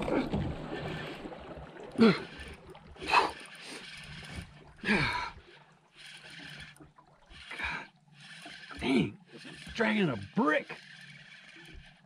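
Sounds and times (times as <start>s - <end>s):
fishing reel cranking: 2.0s - 12.0s.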